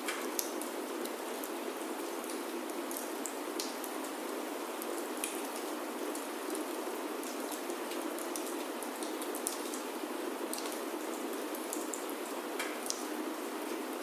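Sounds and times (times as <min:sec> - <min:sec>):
rain on a wooden roof: 0:00.0 - 0:14.0.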